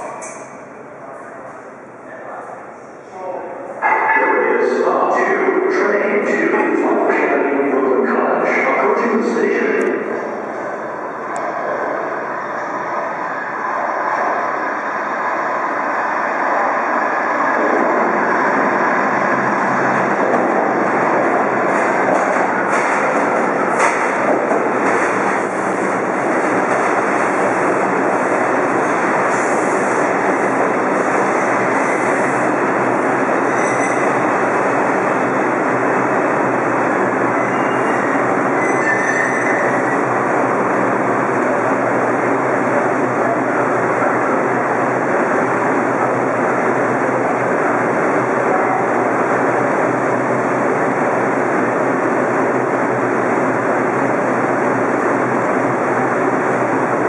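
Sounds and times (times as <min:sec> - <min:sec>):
subway train wheels on rails: 0:00.0 - 0:57.0.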